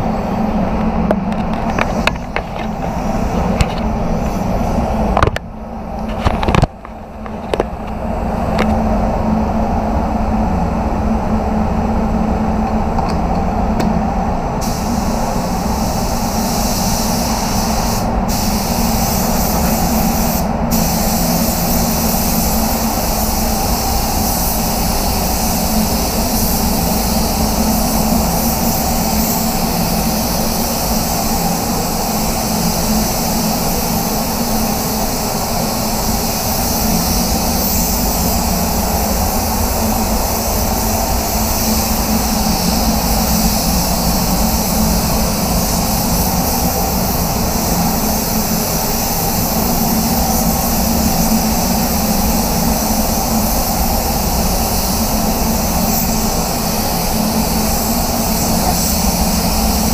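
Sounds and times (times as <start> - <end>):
spray gun hissing: 0.0 - 12.4, 14.4 - 59.9
extraction fans rushing air: 0.0 - 59.9.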